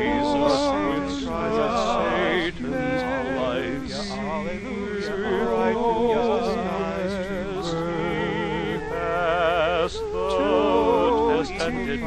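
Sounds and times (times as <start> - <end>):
man singing slow hymn-like song: 0.0 - 12.0.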